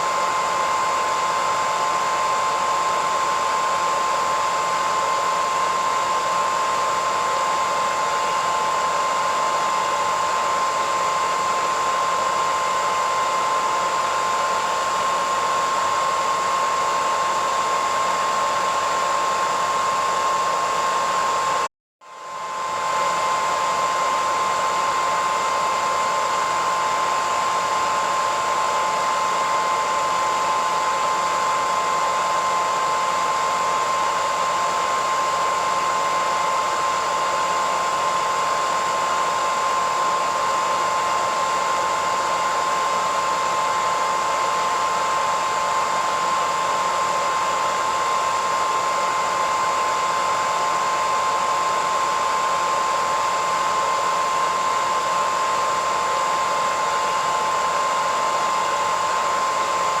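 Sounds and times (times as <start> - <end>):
hairdryer running: 0.0 - 60.0.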